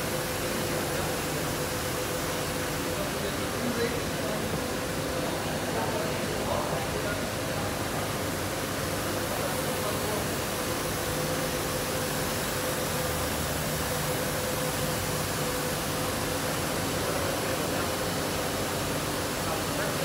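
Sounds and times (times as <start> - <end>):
machine humming and hissing: 0.0 - 20.0.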